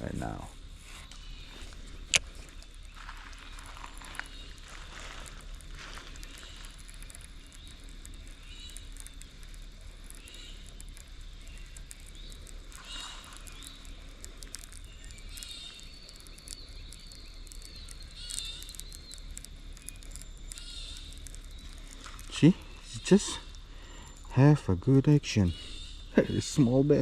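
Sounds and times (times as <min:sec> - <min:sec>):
birds chirping: 0:00.0 - 0:27.0
low background hum: 0:00.0 - 0:27.0
faint clicks: 0:01.0 - 0:24.5.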